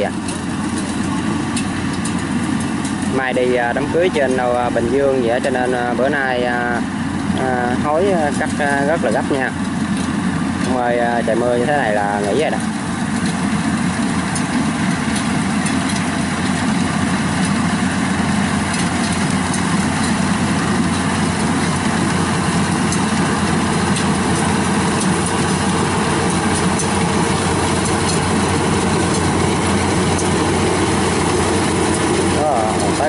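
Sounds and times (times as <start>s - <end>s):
combine harvester droning: 0.0s - 33.0s.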